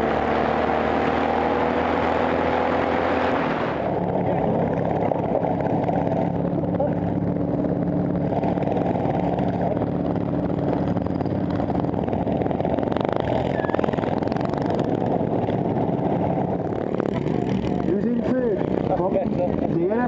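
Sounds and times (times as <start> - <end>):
ride-on lawn mower engine: 0.0 - 20.0.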